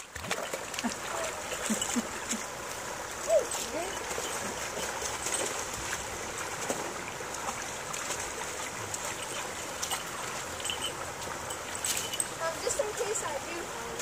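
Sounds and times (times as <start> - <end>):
creek water flowing over rocks: 0.0 - 14.0.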